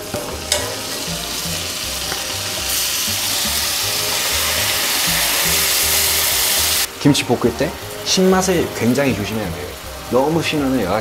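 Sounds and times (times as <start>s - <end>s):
kimchi sizzling in butter: 0.0s - 11.0s.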